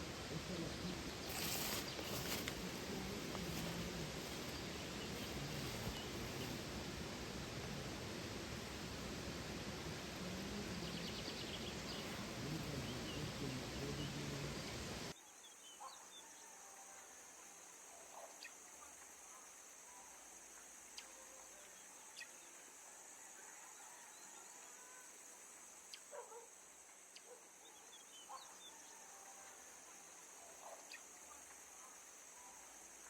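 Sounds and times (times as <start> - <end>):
high insect drone: 0.0 - 15.2, 16.2 - 33.0.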